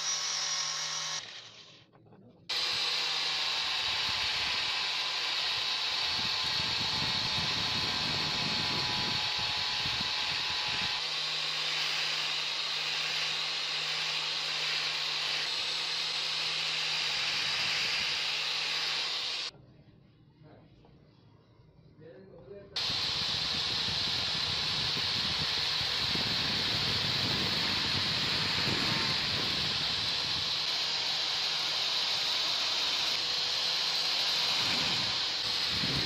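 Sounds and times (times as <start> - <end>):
angle grinder whine: 0.0 - 1.9, 2.5 - 19.5, 22.8 - 36.0.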